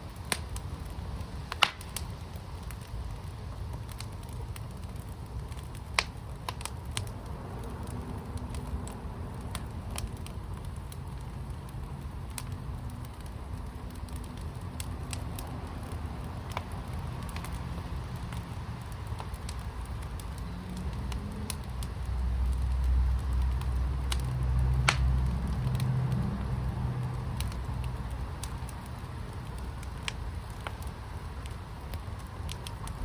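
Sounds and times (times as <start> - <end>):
fire crackling and popping: 0.0 - 33.0
fire low rumble: 0.0 - 33.0.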